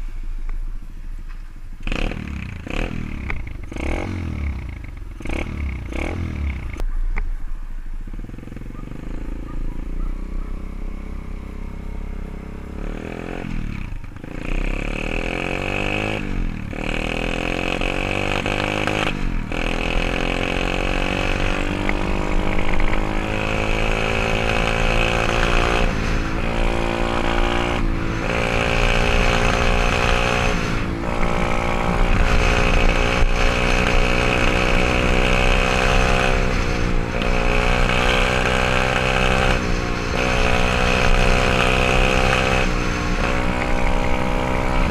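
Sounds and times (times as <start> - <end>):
motorbike engine revving: 1.8 - 6.8, 8.1 - 44.9.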